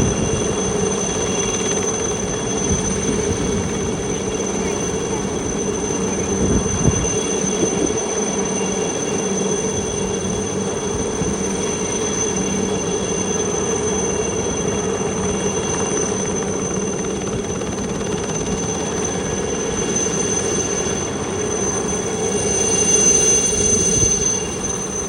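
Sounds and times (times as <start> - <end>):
helicopter running overhead: 0.0 - 25.0
turbine whine: 0.0 - 25.0.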